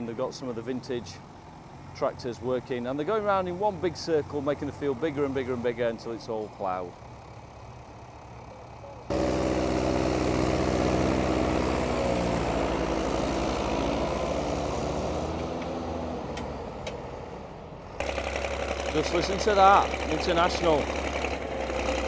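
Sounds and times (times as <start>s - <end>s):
diesel tractors running: 0.0s - 22.0s.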